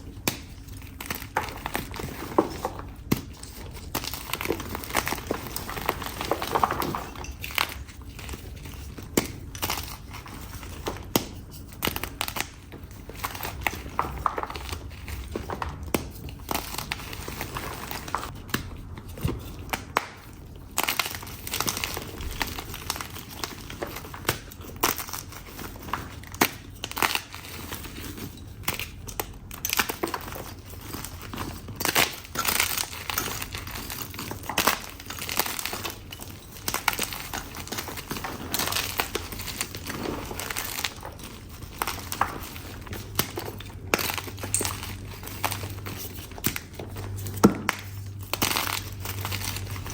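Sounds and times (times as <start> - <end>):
chalk crunching and crumbling: 0.0 - 49.9.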